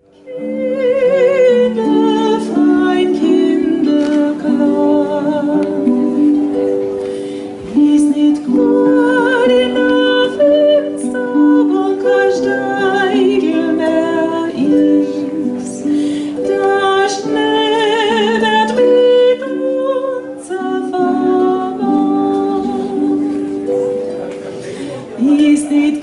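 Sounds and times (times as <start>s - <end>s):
woman singing a folk song: 0.0s - 6.6s, 7.6s - 23.7s, 25.2s - 26.0s
concert harp: 0.0s - 26.0s.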